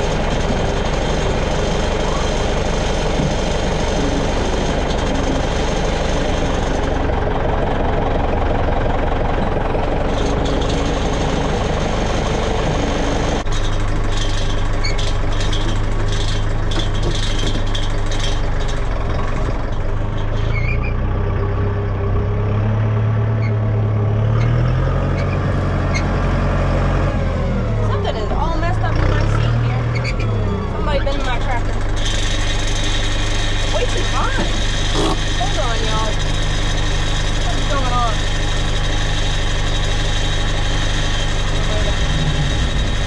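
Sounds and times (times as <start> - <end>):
skid steer loader running: 0.0 - 43.0
tractor engine running: 0.0 - 43.0.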